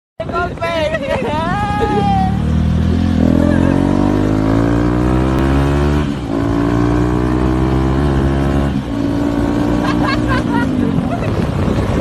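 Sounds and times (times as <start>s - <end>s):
motorcycle engine accelerating: 1.6s - 12.0s.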